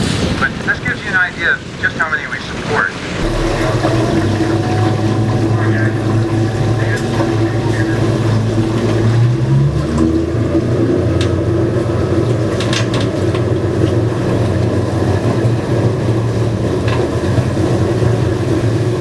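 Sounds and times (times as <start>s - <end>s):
boat engine droning: 1.2s - 19.0s.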